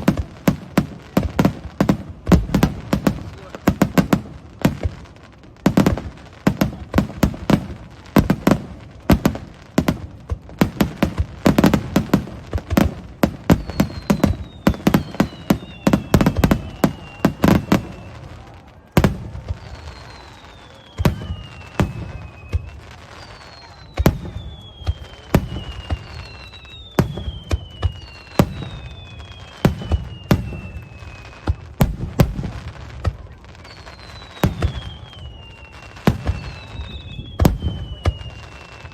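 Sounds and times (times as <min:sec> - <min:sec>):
falling firework whistles: 0:00.0 - 0:38.9
fireworks bangs: 0:00.0 - 0:38.9.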